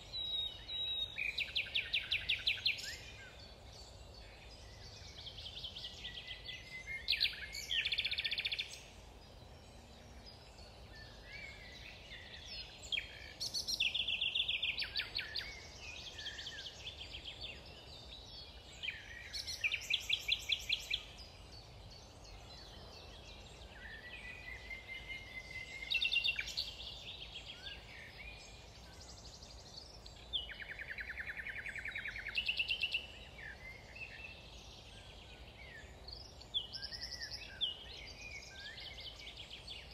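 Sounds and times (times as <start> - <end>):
faint low background noise: 0.0 - 39.9
songbirds trilling and whistling: 0.0 - 39.9.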